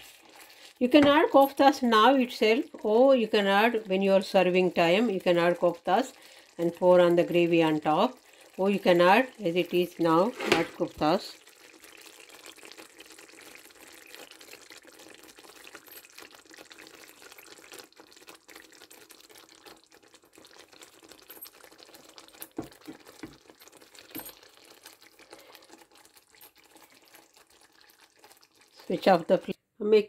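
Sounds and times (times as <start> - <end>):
gravy bubbling in a pan: 0.0 - 29.6.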